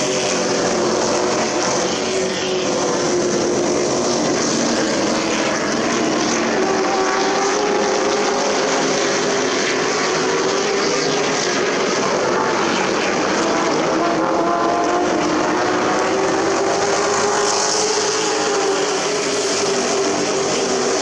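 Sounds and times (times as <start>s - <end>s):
race engines running: 0.0s - 21.0s.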